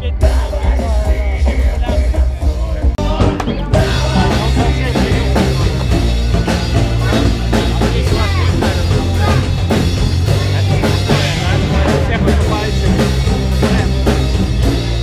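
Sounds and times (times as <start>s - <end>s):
music with drums and heavy bass: 0.0s - 15.0s.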